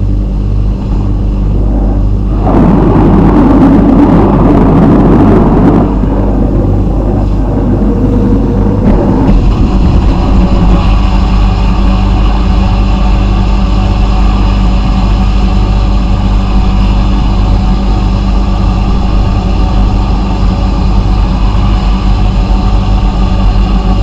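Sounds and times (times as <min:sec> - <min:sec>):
machinery humming with hiss: 0:00.0 - 0:24.0.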